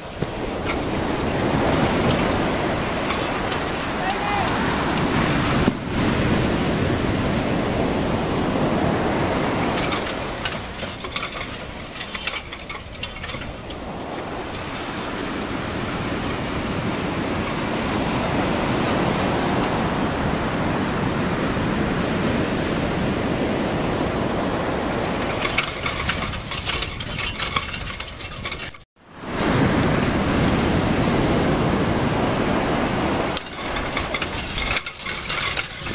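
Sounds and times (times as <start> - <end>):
surf breaking on beach: 0.0 - 27.0, 29.1 - 35.9.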